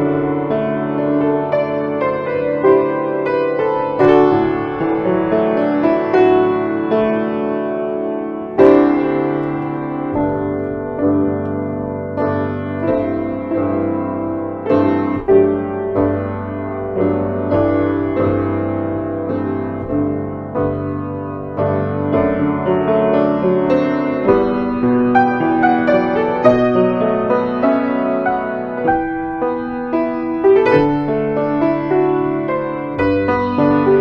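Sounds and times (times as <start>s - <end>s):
slow solo piano chords: 0.0s - 34.0s.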